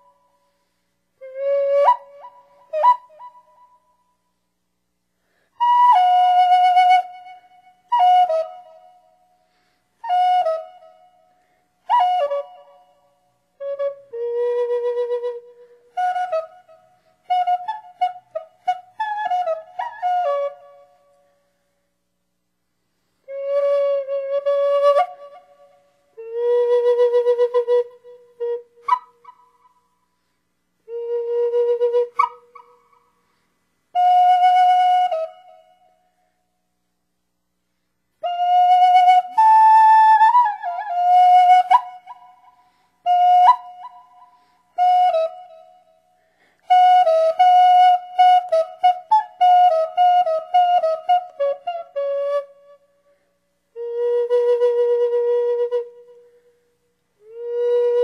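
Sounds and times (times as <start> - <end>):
solo flute playing: 0.0 - 4.3, 5.4 - 21.9, 23.2 - 36.6, 38.2 - 58.0.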